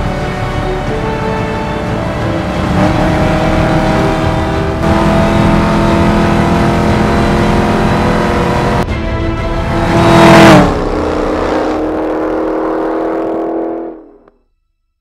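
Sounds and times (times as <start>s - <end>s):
car engine cruising: 0.0s - 14.3s.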